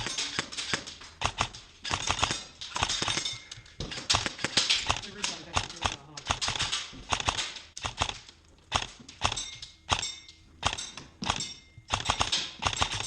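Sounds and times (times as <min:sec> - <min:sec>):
metallic pings of steel targets: 0:00.0 - 0:07.7, 0:09.1 - 0:13.0
airsoft rifle shots: 0:00.0 - 0:13.0.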